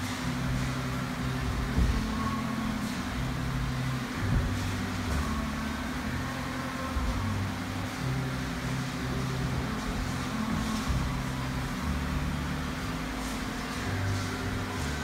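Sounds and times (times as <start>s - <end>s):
low drone and hum: 0.0s - 15.0s.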